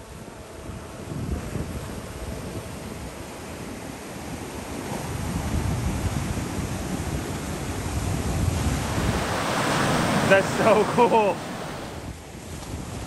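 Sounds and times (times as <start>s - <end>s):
wind buffeting the microphone: 0.0s - 13.0s
ocean surf washing onto beach: 1.1s - 13.0s.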